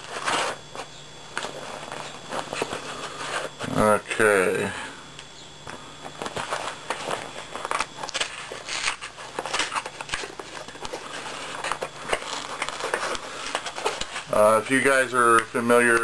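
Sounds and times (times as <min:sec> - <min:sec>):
packaging rustling and crinkling: 0:00.0 - 0:03.8, 0:06.0 - 0:16.0.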